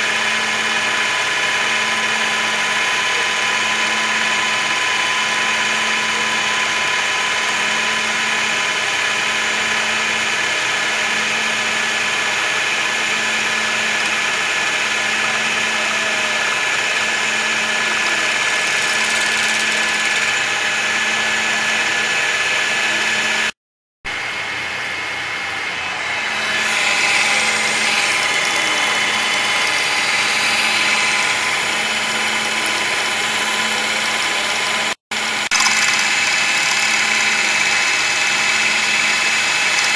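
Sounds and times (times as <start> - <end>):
cutter grinding metal: 0.0 - 39.9
milling machine motor whine: 0.0 - 39.9.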